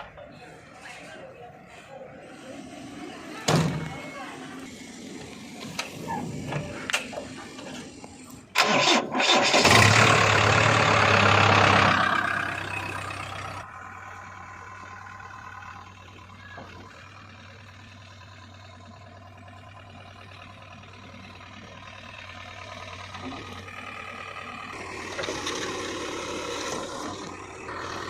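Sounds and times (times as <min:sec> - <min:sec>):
diesel engine starting and idling: 0:00.0 - 0:28.0.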